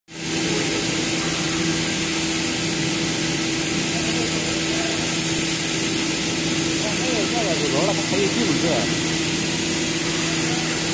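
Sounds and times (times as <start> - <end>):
cnc machine hum and hiss: 0.1 - 10.9.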